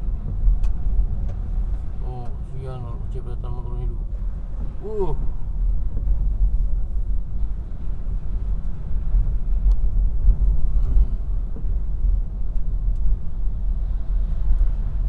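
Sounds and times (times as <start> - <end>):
car engine rumble: 0.0 - 15.0
tyres on wet road: 0.0 - 15.0.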